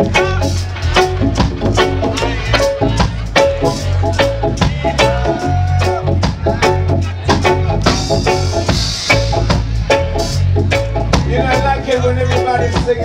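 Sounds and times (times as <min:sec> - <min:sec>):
bass line: 0:00.0 - 0:13.0
drum beat: 0:00.0 - 0:13.0
keyboard chords: 0:00.0 - 0:13.0.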